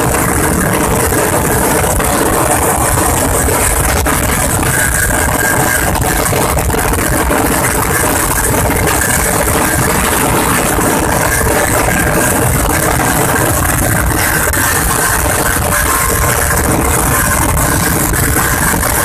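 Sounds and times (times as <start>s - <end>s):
auto-rickshaw engine running: 0.0s - 19.0s.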